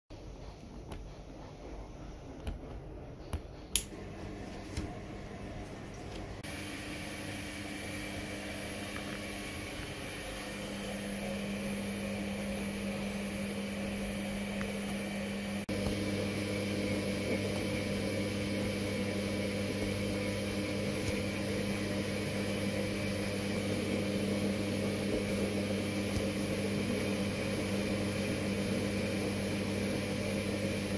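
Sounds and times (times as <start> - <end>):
washing machine drum humming: 0.1 - 30.9.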